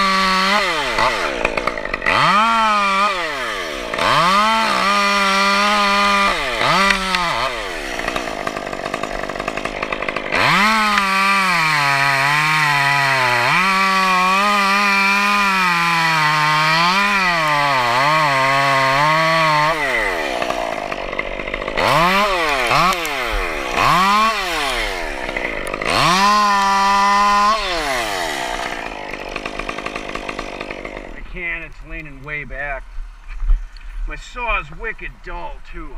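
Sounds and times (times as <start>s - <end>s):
chainsaw revving: 0.0s - 32.0s
chainsaw cutting wood: 0.0s - 32.4s.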